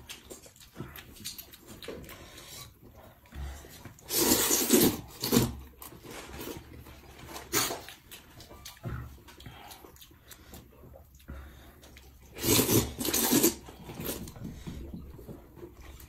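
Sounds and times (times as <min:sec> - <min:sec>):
noodles being slurped: 0:00.0 - 0:16.0.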